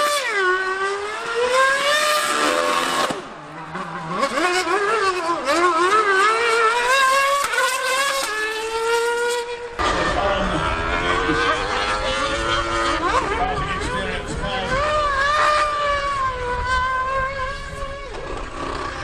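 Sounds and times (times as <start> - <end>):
high-revving race engines: 0.0 - 19.0.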